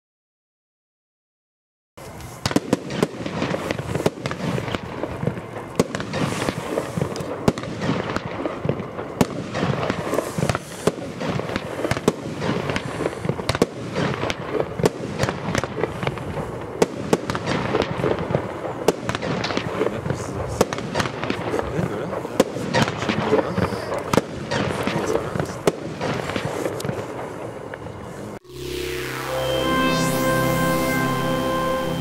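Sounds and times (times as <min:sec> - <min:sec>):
fireworks bangs and bursts: 0:02.1 - 0:28.2.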